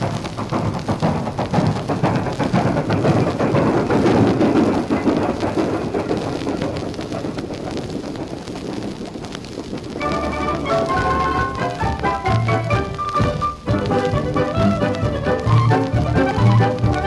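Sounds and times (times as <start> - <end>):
recorded steam train rumbling: 0.0 - 17.0.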